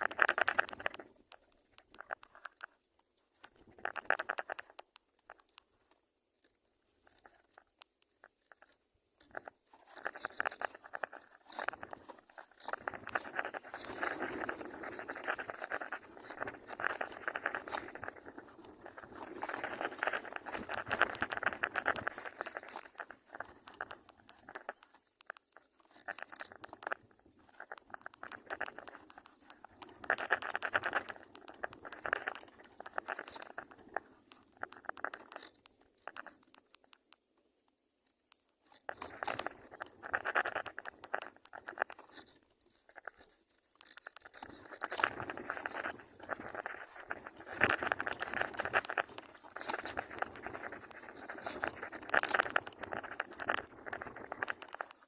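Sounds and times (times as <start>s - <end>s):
rustling and crackling with clicks: 0.0s - 55.0s.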